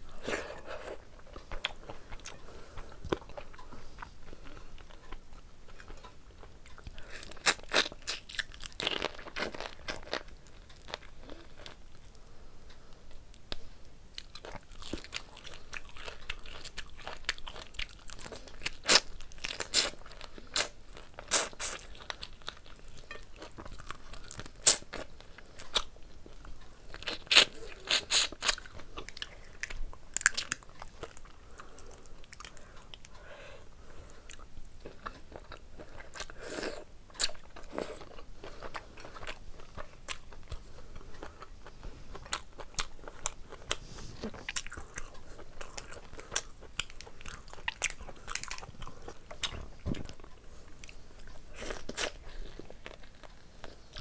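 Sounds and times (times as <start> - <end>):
crunchy chewing: 0.1 - 33.3, 33.9 - 54.0.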